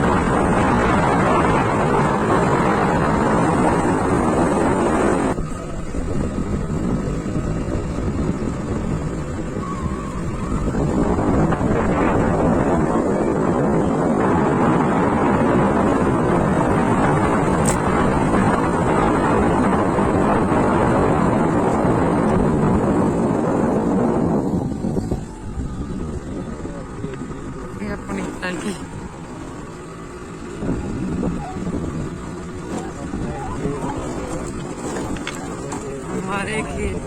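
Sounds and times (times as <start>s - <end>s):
moving motorbike: 0.0s - 37.0s
wind on microphone: 0.0s - 37.0s.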